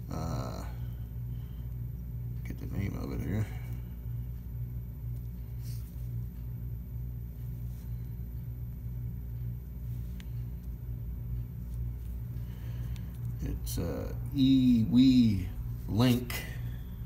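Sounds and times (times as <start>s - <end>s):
low throbbing machine hum: 0.0s - 17.0s.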